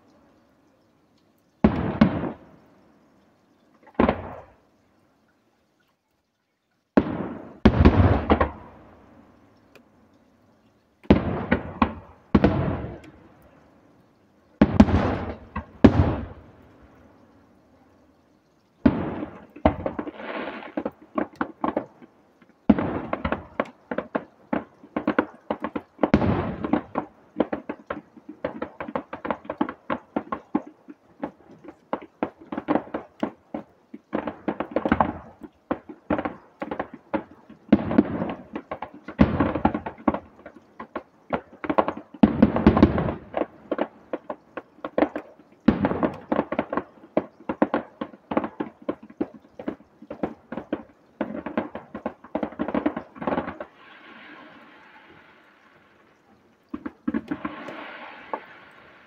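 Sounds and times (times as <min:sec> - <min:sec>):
firework crackling: 0:01.4 - 0:04.7, 0:07.0 - 0:59.0
firework shells bursting: 0:01.5 - 0:04.7, 0:07.0 - 0:09.9, 0:11.0 - 0:59.0.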